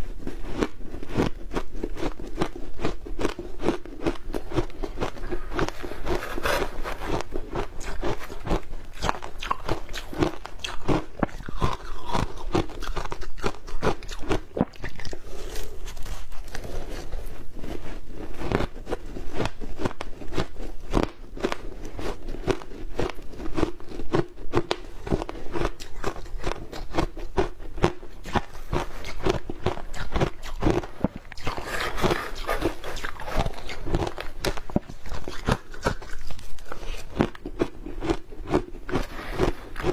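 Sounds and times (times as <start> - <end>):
ice being crunched and chewed: 0.0 - 39.9.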